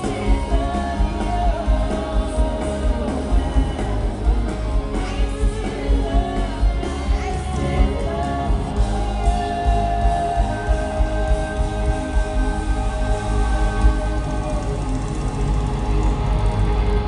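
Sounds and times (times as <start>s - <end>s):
drum beat: 0.0s - 17.0s
pop-rock band playing: 0.0s - 17.0s.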